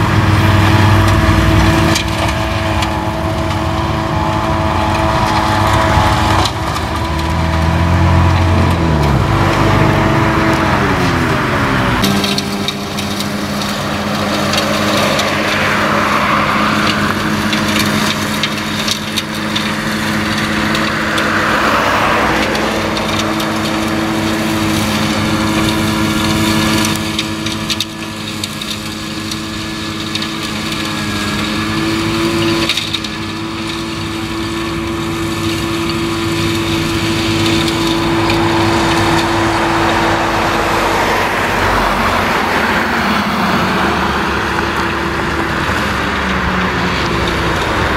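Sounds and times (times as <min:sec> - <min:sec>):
flail mulcher chopping grass: 0:00.0 - 0:47.9
tractor engine running: 0:00.0 - 0:47.9.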